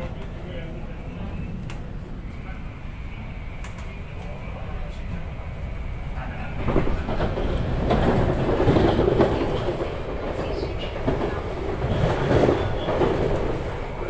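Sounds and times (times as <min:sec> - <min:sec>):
wheels rumbling on rail: 0:00.0 - 0:14.0.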